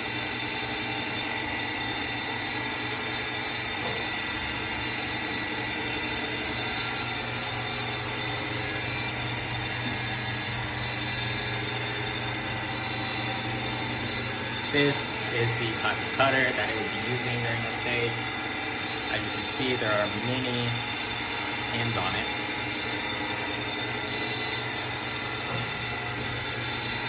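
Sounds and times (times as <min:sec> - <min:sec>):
milling machine humming and whining: 0:00.0 - 0:27.0.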